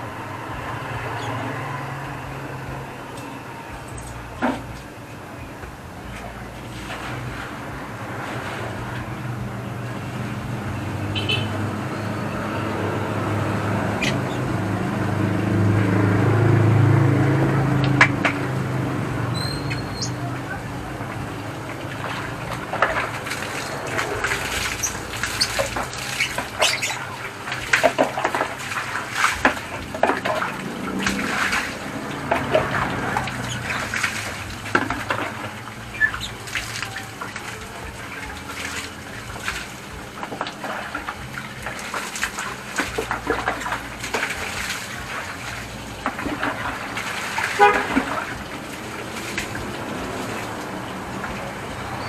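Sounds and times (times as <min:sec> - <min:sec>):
water spraying and splashing: 0:00.0 - 0:52.0.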